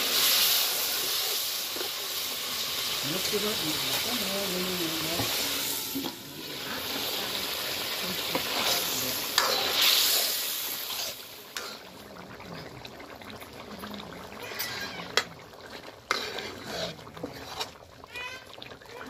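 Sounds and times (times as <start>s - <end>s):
curry sizzling in a wok: 0.0s - 19.0s.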